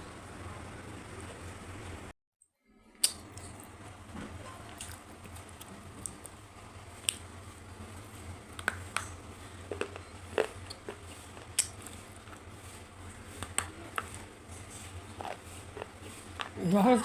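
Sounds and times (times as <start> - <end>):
steady low hum: 0.0 - 2.1, 2.8 - 17.0.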